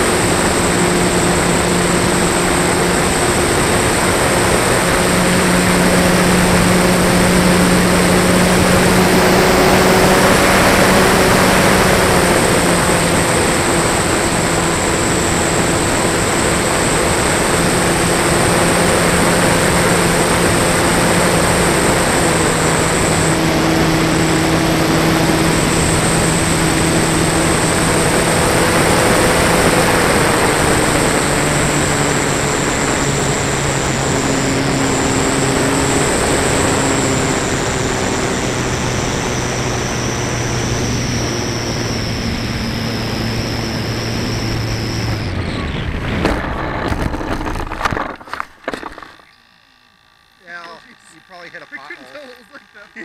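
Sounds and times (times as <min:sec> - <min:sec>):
model plane electric motor: 0:00.0 - 0:53.0.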